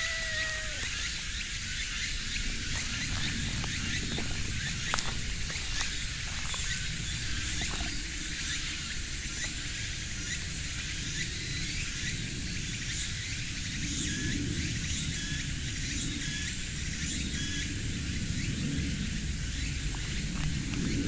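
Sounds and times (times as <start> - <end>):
insects hissing in trees: 0.0 - 21.0.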